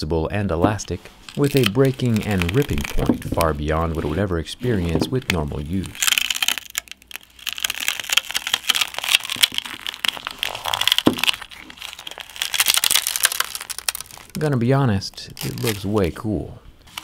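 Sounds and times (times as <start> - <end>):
display crinkling and tearing: 0.7 - 17.0.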